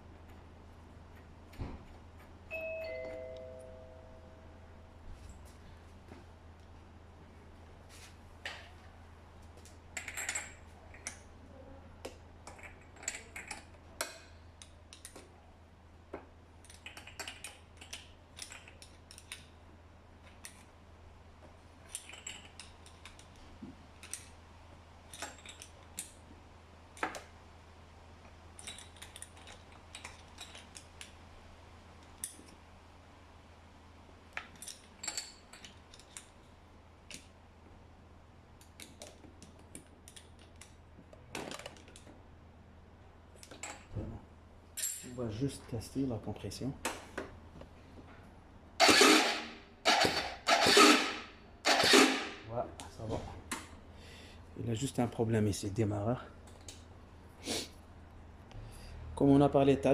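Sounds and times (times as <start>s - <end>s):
faint low hum: 0.0s - 50.2s.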